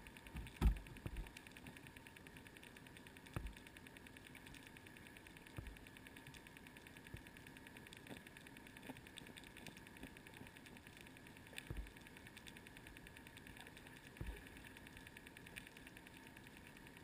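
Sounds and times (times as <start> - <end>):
faint fast ticking: 0.0 - 17.0.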